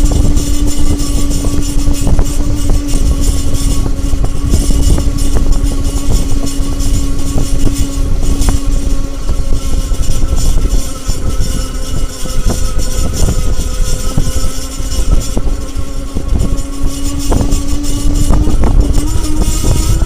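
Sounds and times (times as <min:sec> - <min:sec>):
e-bike motor whining: 0:00.0 - 0:20.0
heavy low rumble: 0:00.0 - 0:20.0.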